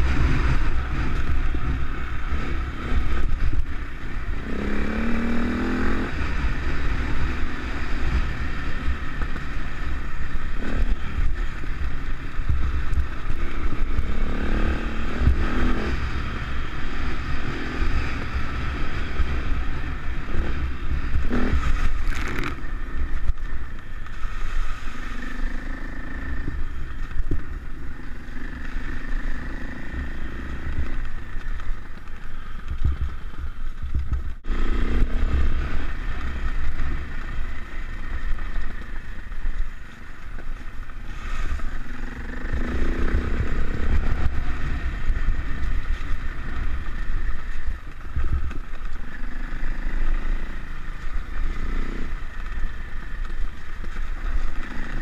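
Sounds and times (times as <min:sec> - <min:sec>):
dirt bike engine running: 0:00.0 - 0:55.0
wind rumble on microphone: 0:00.0 - 0:55.0.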